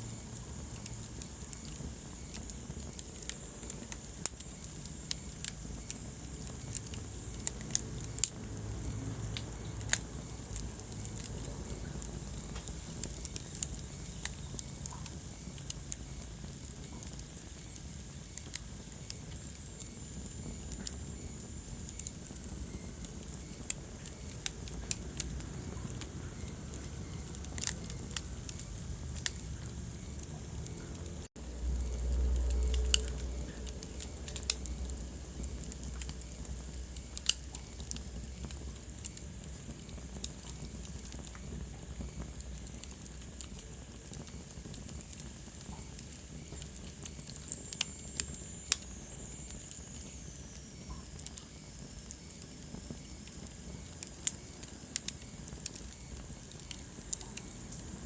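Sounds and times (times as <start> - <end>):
low hiss and rumble: 0.0 - 58.0
wood fire crackling: 0.0 - 58.0.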